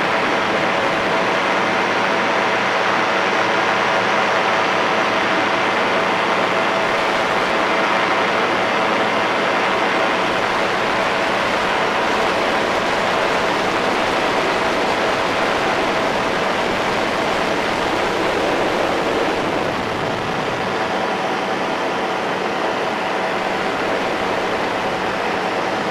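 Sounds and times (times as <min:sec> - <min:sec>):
engine and propeller hum: 0:00.0 - 0:25.9.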